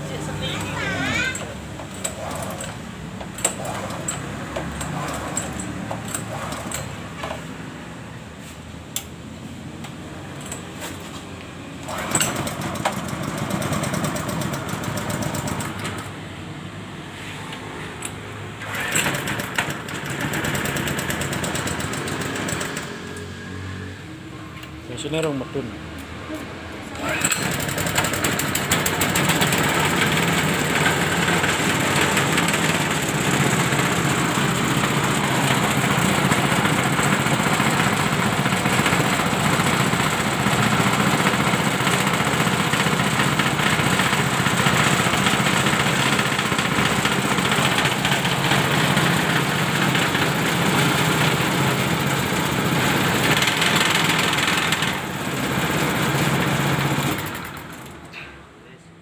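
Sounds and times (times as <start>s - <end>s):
petrol engine running: 0.0s - 8.5s, 9.8s - 16.8s, 17.5s - 23.4s, 26.7s - 58.1s.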